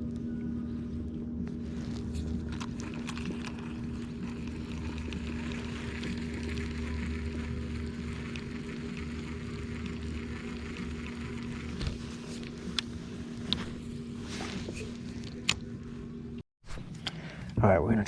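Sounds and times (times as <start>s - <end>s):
motor humming: 0.0s - 16.4s.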